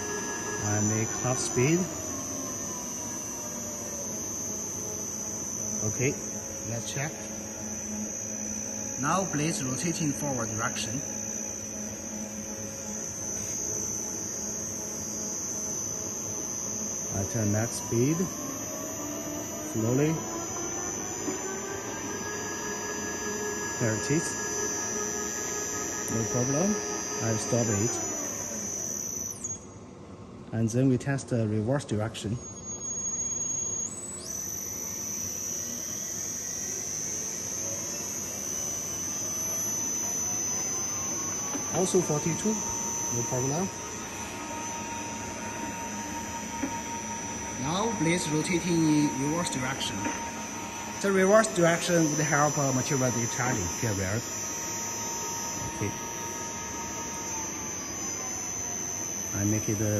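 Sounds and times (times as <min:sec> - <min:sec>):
electric motor hum: 0:00.0 - 0:59.9
thin high whine: 0:00.0 - 0:59.9.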